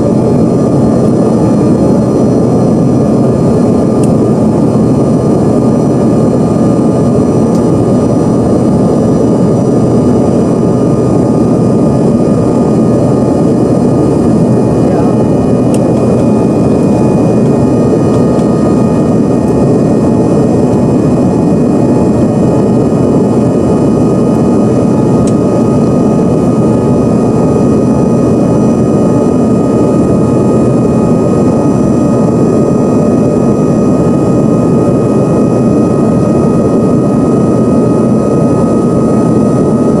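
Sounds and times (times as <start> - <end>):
jet engine and air rush: 0.0 - 40.0
thin steady whine: 0.0 - 40.0.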